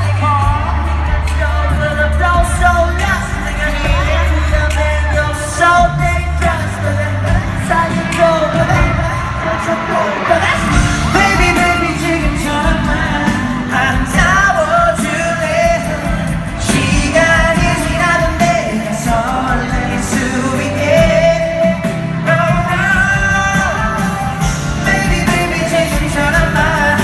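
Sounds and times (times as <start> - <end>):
loud amplified music: 0.0 - 27.0
pop group singing live: 0.0 - 27.0.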